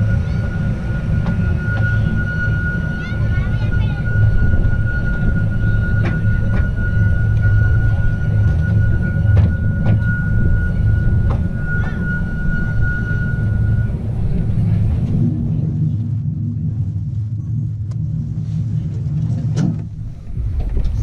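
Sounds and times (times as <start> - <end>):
high whine: 0.0 - 21.0
train rumbling on track: 0.0 - 21.0.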